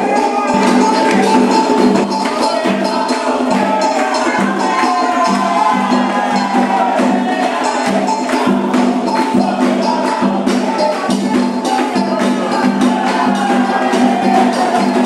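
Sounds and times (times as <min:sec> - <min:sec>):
shaken and struck percussion: 0:00.0 - 0:15.0
voices singing a chant: 0:00.0 - 0:15.0.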